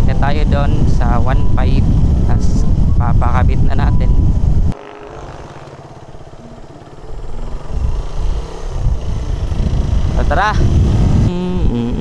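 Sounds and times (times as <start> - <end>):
wind noise on microphone: 0.0 - 4.8, 7.1 - 12.0
motorcycle engine running: 0.0 - 12.0.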